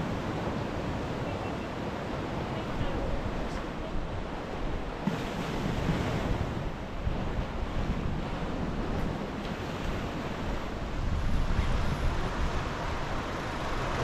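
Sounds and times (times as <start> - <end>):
sea surf washing onto beach: 0.0 - 14.0
wind buffeting microphone: 0.0 - 14.0.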